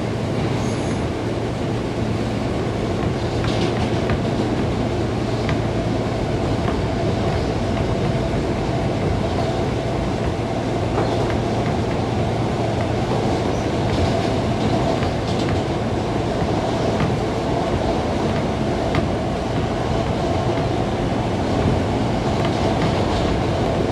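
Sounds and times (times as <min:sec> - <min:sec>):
subway train wheels rumbling on rail: 0:00.0 - 0:23.9.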